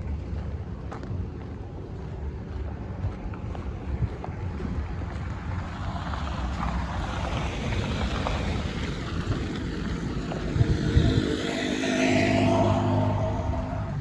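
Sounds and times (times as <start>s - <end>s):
low rumble of road vehicles: 0.0s - 14.0s
wind noise on microphone: 0.0s - 14.0s.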